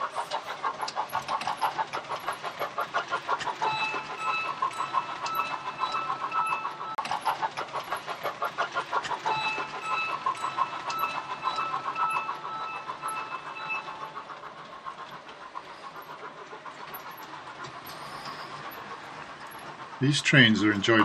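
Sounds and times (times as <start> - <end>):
model train wheels clicking on rails: 0.0 - 21.0.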